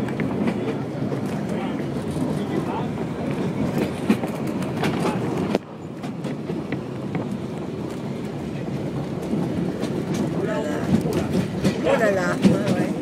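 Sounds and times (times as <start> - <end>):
train carriage rumble: 0.0 - 13.0
wheels clattering on rails: 0.0 - 13.0.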